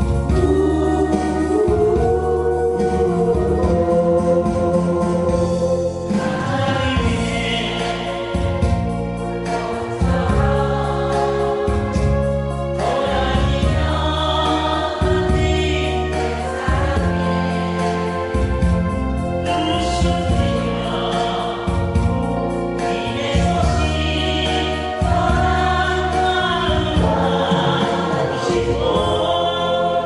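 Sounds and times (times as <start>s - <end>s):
instrumental backing track: 0.0s - 30.0s
several voices singing: 0.0s - 30.0s.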